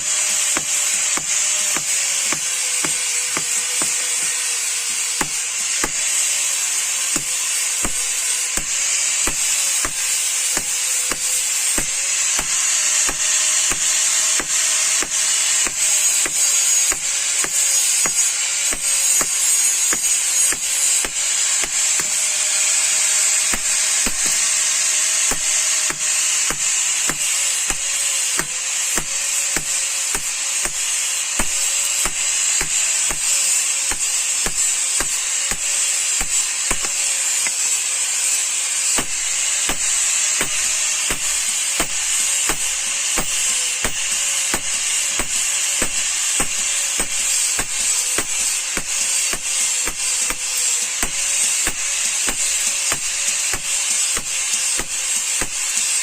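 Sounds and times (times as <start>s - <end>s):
steady mechanical hiss: 0.0s - 56.0s.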